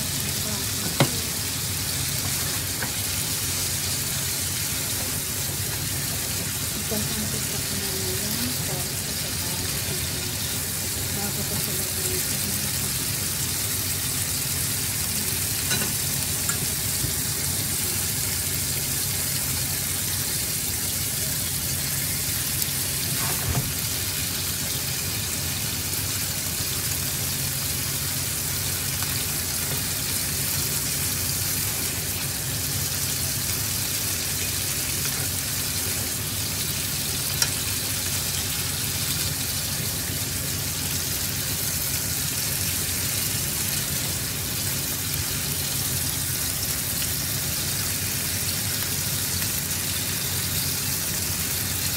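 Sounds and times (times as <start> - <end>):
food sizzling in a pan: 0.0 - 51.9.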